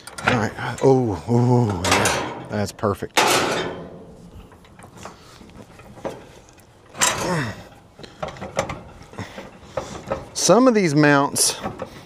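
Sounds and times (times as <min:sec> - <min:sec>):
light metal clicks and scraping: 0:01.7 - 0:12.0.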